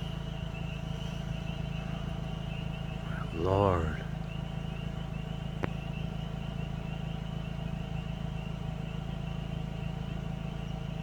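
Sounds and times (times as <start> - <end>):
faint high pulsing chirr: 0.0 - 10.8
car engine idling: 0.0 - 11.0.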